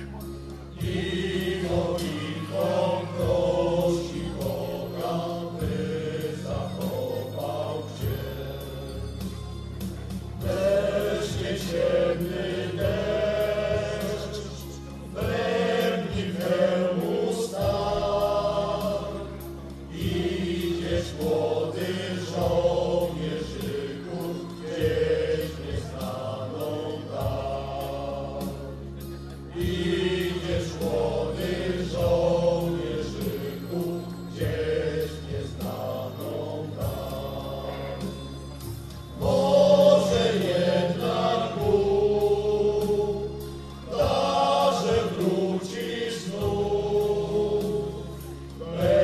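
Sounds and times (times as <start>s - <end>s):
choir singing: 0.0s - 49.0s
instrumental accompaniment: 0.0s - 49.0s.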